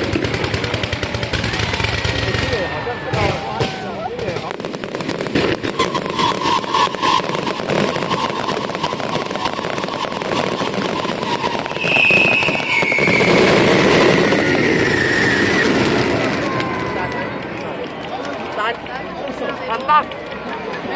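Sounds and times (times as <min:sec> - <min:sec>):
fireworks crackling bangs: 0:00.0 - 0:20.4.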